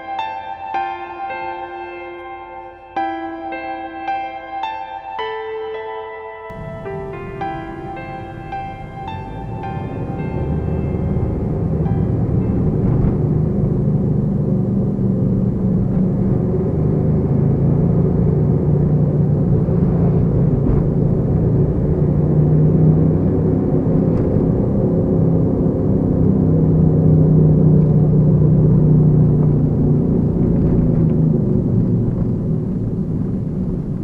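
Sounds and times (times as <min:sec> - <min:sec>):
car engine and road rumble: 0:06.5 - 0:34.0.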